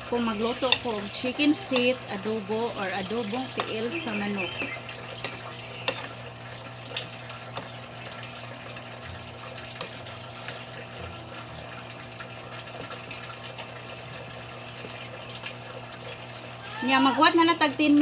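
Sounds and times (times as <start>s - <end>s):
sauce bubbling in a pan: 0.0s - 18.0s.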